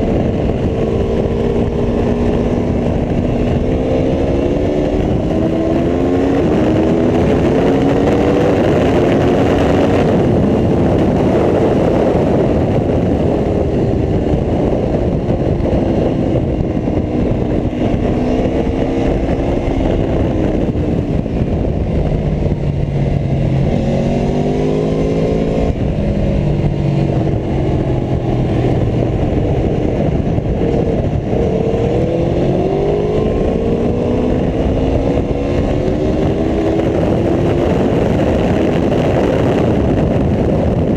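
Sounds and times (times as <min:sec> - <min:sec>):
motorcycle engine revving: 0:00.0 - 0:40.9
wind rush on microphone: 0:00.0 - 0:40.9.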